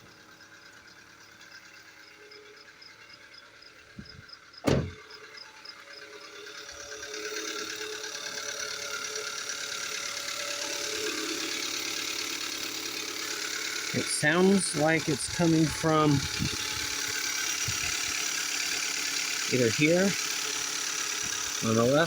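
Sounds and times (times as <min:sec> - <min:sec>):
car engine idling with ticking: 0:00.0 - 0:22.0.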